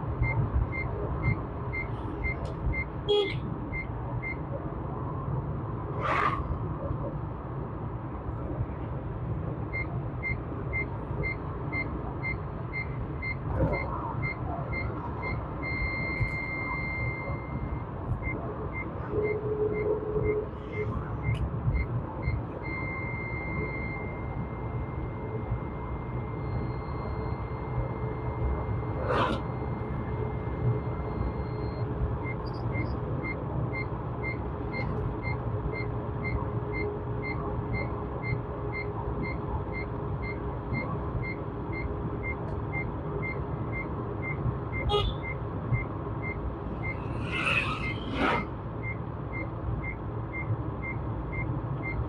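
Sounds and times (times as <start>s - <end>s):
road and engine rumble: 0.0s - 52.0s
electronic warning beep: 9.8s - 52.0s.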